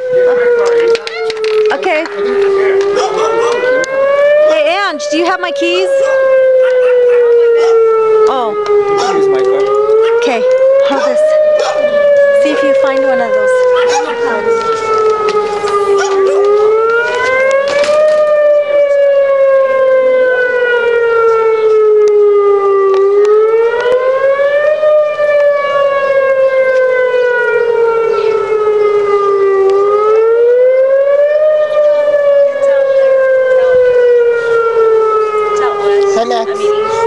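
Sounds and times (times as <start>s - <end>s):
warning siren wailing: 0.0s - 37.0s.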